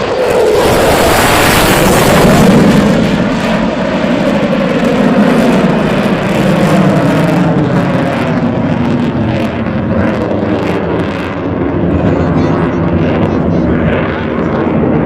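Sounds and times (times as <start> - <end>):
jet engines afterburner roar: 0.0 - 15.0.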